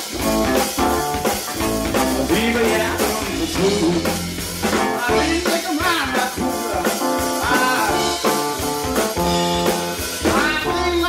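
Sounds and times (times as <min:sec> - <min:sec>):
live blues band playing: 0:00.0 - 0:11.0.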